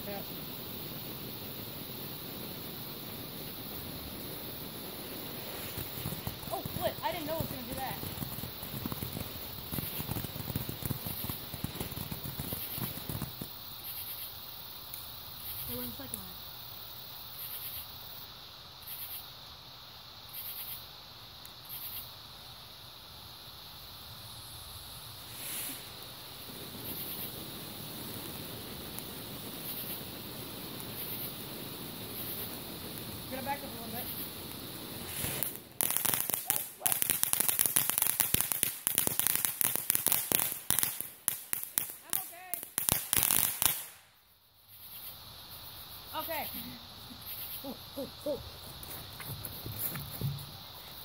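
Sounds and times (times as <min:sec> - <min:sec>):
cricket trill: 0:00.0 - 0:51.0
firework crackling: 0:00.0 - 0:51.0
rasping insect call: 0:00.0 - 0:51.0.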